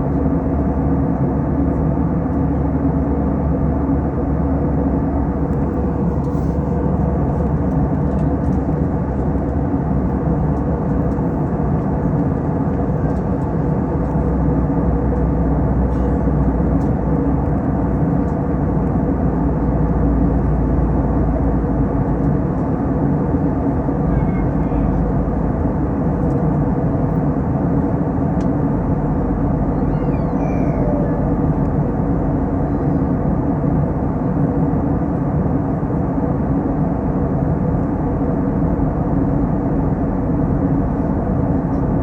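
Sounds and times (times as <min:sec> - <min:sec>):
airliner cabin drone: 0:00.0 - 0:42.0
faint hum: 0:01.5 - 0:36.4.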